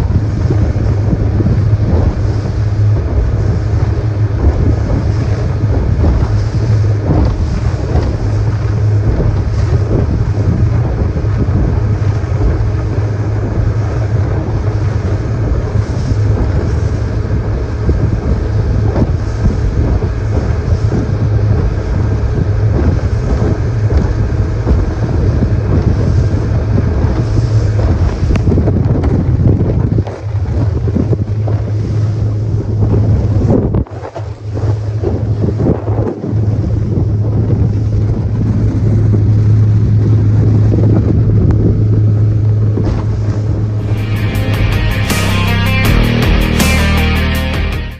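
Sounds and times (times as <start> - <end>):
outboard motor running: 0.0 - 47.9
wind noise on microphone: 0.0 - 47.9.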